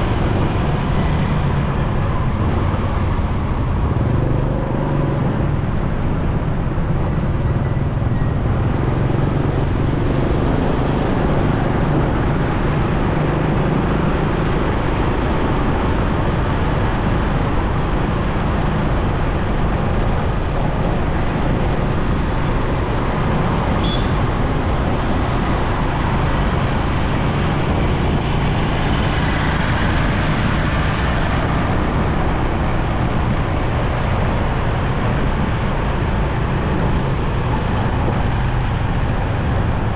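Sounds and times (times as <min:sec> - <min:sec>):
surrounding traffic: 0:00.0 - 0:39.9
wind rushing over microphone: 0:00.0 - 0:39.9.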